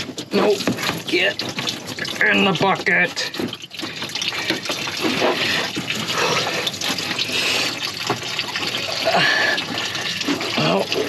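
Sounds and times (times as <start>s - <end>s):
liquid pouring into bucket: 0.0s - 11.0s.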